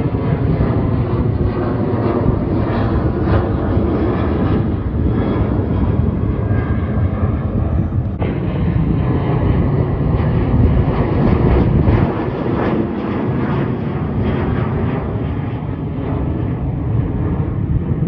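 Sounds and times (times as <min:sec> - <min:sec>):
jet engines rumbling overhead: 0:00.0 - 0:18.0.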